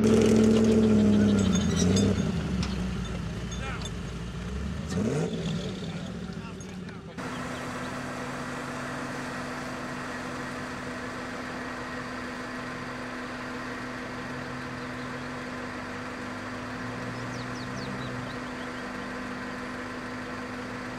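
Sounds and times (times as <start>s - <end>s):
engine running at steady revs: 0.0s - 20.9s.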